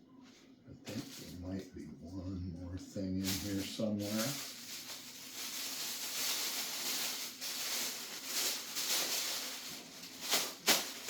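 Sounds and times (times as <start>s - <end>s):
packaging rustling and crinkling: 0.9s - 11.0s.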